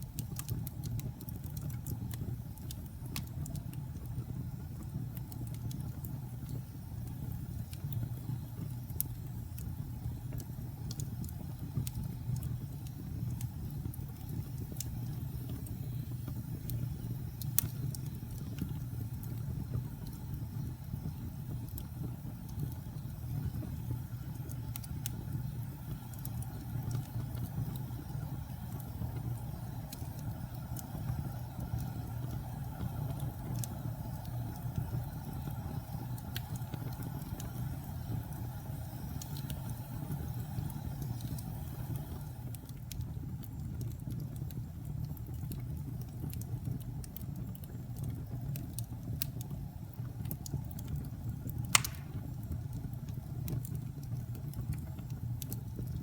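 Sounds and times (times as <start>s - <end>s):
fire crackling and popping: 0.0s - 56.0s
wood fire burning: 0.0s - 56.0s.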